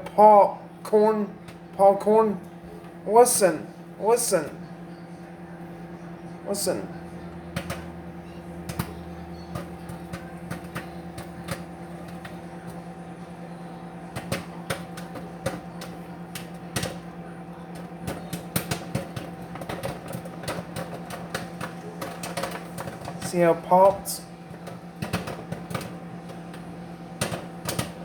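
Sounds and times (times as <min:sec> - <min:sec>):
microwave oven hum: 0:00.0 - 0:28.0
popcorn popping: 0:00.0 - 0:28.0.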